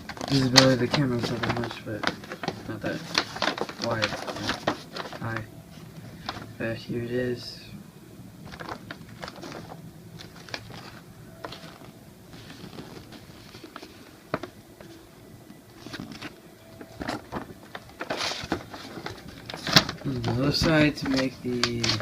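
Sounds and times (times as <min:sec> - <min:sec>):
paper rustling: 0:00.0 - 0:06.5, 0:08.4 - 0:15.0, 0:15.7 - 0:22.0.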